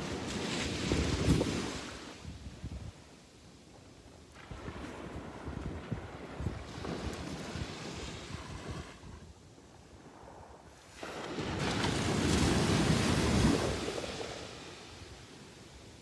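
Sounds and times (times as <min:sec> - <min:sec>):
sea waves on a beach: 0:00.0 - 0:16.0.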